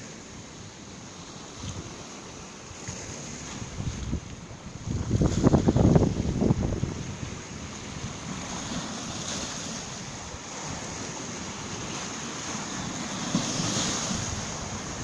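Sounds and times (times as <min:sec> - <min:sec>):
waves washing over pebbles: 0:00.0 - 0:15.0.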